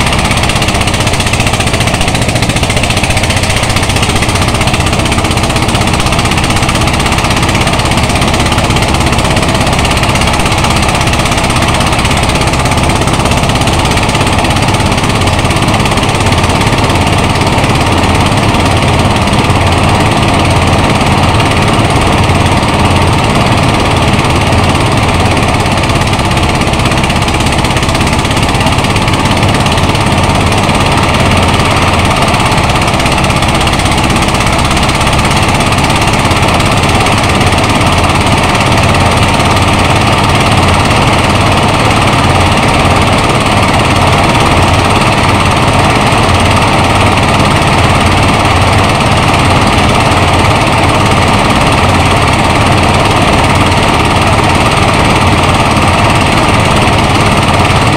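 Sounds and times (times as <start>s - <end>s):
engine-driven thresher running: 0.0s - 57.9s.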